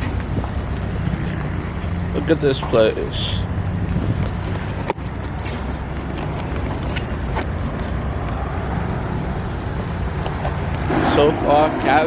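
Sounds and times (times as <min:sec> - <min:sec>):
car rumbling on road: 0:00.0 - 0:12.0.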